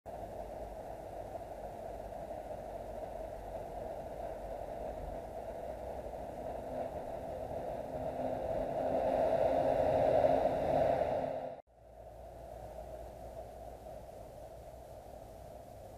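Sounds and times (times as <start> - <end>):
steady hiss-like noise: 0.1 - 15.9.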